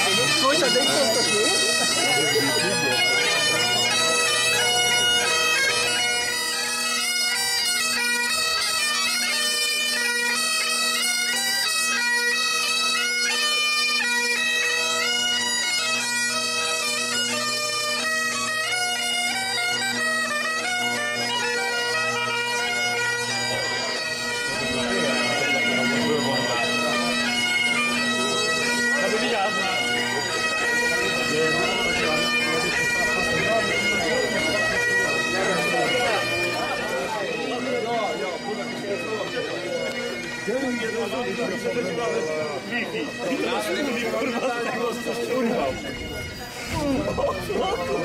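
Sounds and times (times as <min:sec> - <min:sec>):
bagpipes playing: 0:00.0 - 0:48.0.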